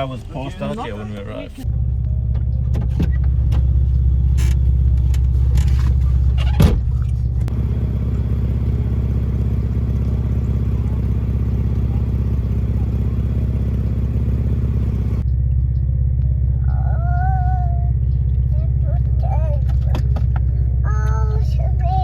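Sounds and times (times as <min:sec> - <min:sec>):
car engine rumble from inside cabin: 0:00.0 - 0:22.0.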